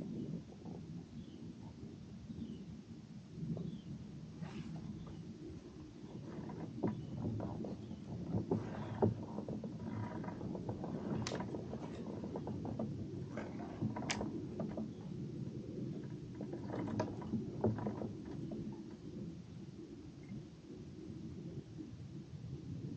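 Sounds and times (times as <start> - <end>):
low steady rumble: 0.0 - 22.9.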